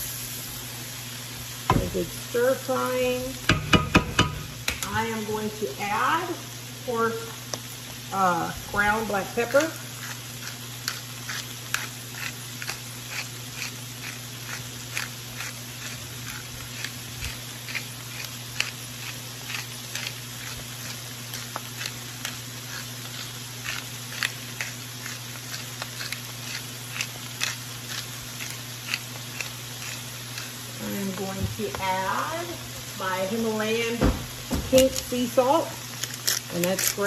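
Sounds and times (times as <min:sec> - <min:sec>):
food sizzling in a skillet: 0:00.0 - 0:37.0.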